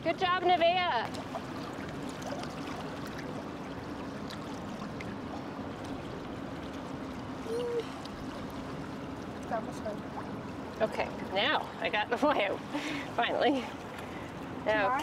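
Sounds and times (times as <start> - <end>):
faint splashes: 0.0 - 15.0
river water rushing: 0.5 - 15.0.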